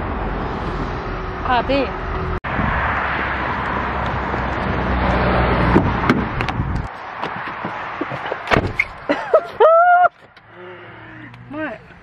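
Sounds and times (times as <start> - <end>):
car rumble: 0.0 - 12.0
wind: 0.0 - 12.0.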